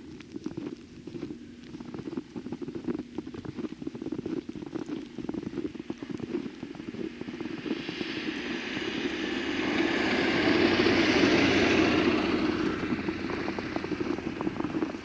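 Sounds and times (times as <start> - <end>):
footsteps crunching in snow: 0.0 - 15.0
vehicle tyres hissing on snow: 0.0 - 15.0.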